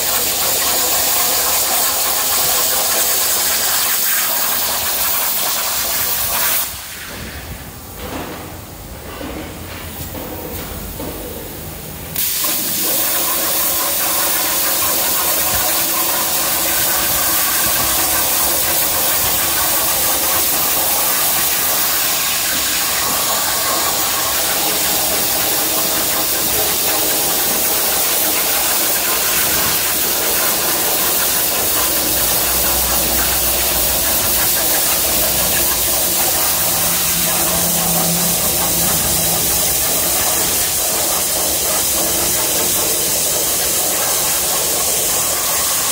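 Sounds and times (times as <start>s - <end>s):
plasma cutter hissing: 0.0s - 7.5s, 12.1s - 45.9s
plasma torch striking arc: 0.0s - 7.6s, 12.1s - 45.9s.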